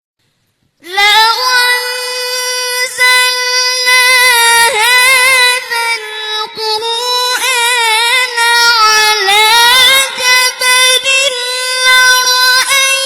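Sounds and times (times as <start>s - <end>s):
high solo voice singing: 0.8s - 13.0s.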